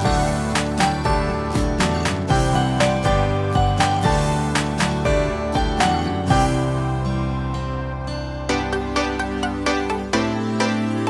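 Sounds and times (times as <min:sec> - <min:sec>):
soft instrumental guitar music: 0:00.0 - 0:11.0.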